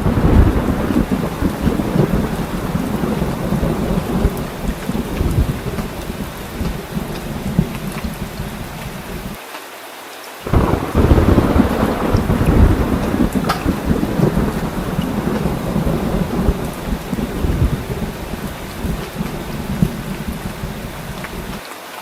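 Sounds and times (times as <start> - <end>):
deep thunder rumbling: 0.0 - 9.4, 10.5 - 21.6
heavy rain: 0.0 - 22.0.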